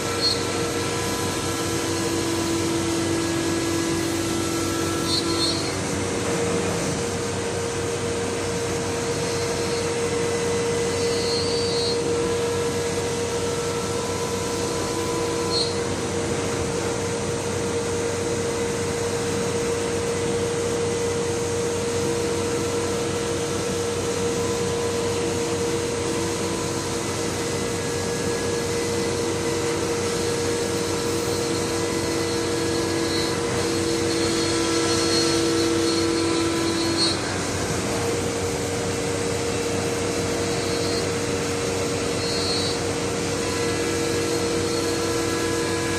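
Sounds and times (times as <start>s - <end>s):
router whine: 0.0s - 45.9s.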